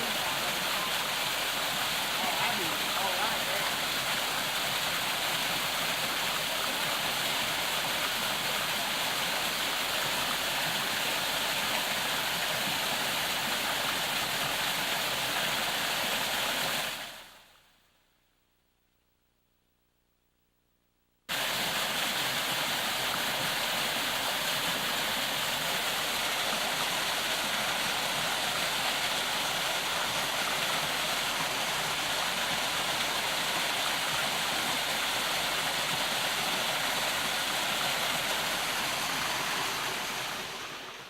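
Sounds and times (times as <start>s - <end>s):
waterfall rushing: 0.0s - 17.0s, 21.3s - 41.0s.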